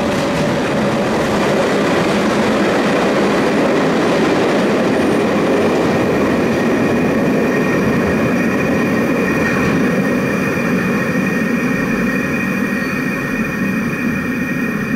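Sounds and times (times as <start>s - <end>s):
locomotive rumble: 0.0s - 14.9s.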